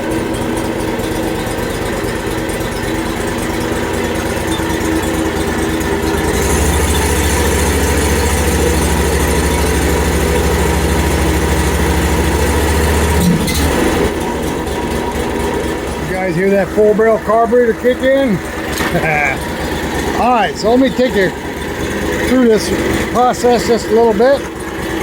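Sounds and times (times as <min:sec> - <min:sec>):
gas engine running: 0:00.0 - 0:25.0.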